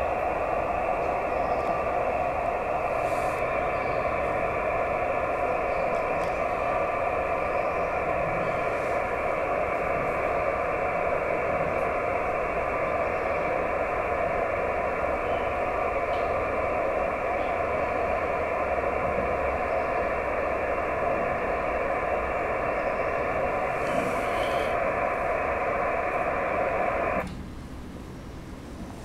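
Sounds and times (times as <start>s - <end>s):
radio receiver hiss: 0.0s - 27.3s.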